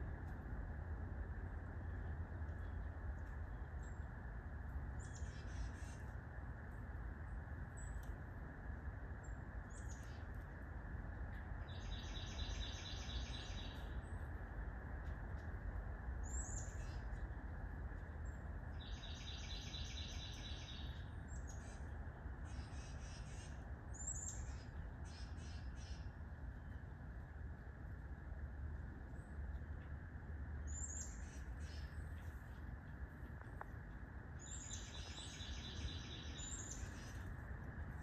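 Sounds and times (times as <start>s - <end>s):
steady low hiss: 0.0s - 38.0s.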